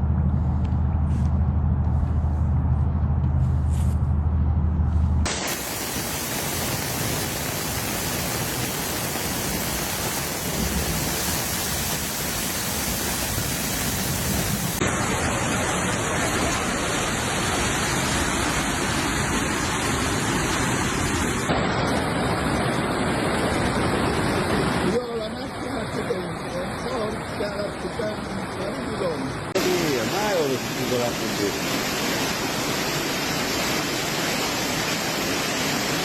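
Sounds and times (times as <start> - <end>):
floodwater rushing: 5.3 - 36.0.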